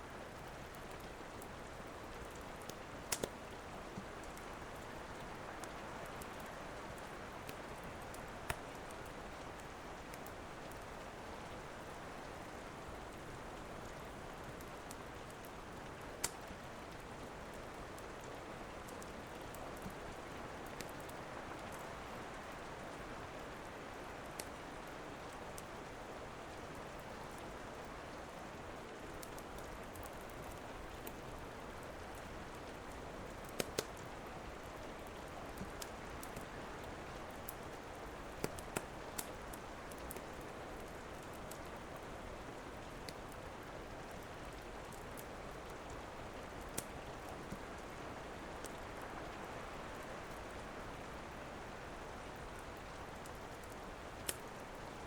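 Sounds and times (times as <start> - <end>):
steady rain: 0.0 - 55.0
wood fire crackling: 0.2 - 22.6, 23.3 - 25.7, 29.0 - 55.0.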